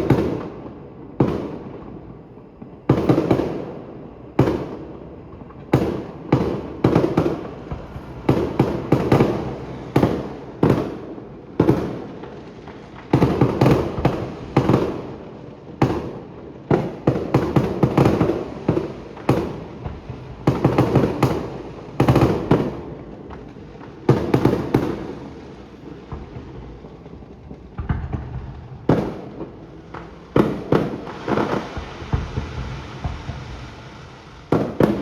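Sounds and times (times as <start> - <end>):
fireworks bursting with echo: 0.0 - 35.0.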